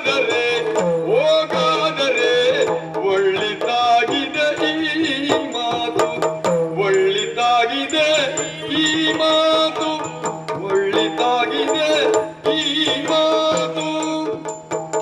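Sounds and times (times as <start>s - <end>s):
person singing: 0.0s - 14.5s
sharp drum strokes: 0.0s - 15.0s.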